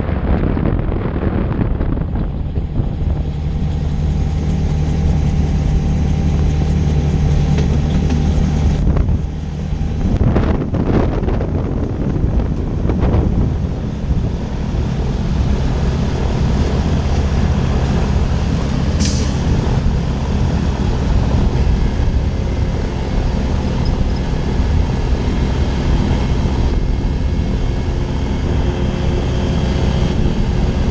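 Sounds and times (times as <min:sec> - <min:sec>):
propeller engine running: 0:00.0 - 0:30.9.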